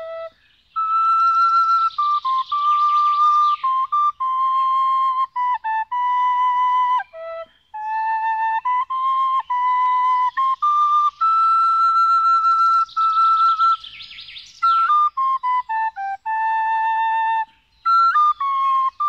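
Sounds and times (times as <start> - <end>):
wind instrument slow melody: 0.0 - 14.0, 14.6 - 19.0.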